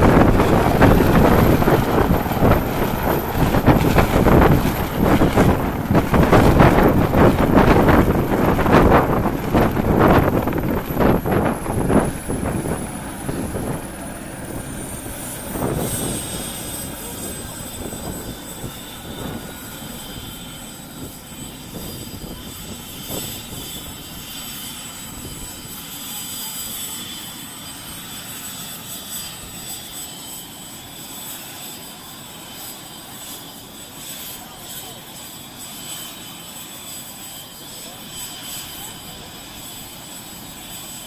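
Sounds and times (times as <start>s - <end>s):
helicopter rotor beating: 0.0s - 41.0s
turbine whine: 0.0s - 41.0s.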